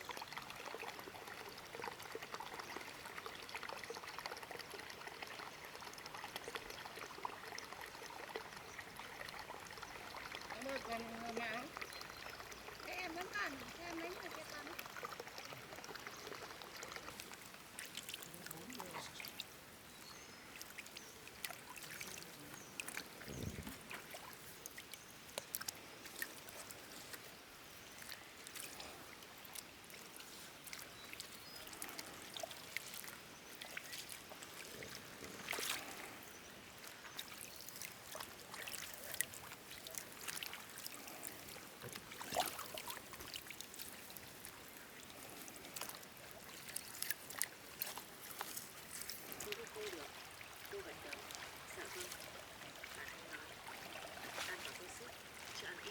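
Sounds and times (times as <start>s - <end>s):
water trickling and splashing: 0.0s - 55.9s.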